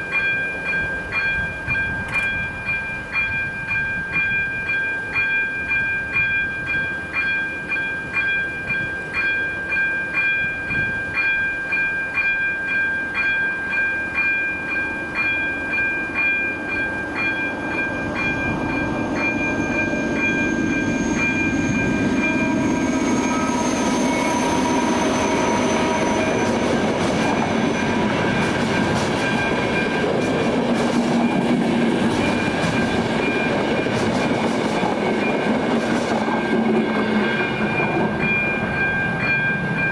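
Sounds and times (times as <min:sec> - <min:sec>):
level crossing warning bell: 0:00.0 - 0:39.9
train passing: 0:00.0 - 0:39.9
train whine: 0:00.0 - 0:39.9.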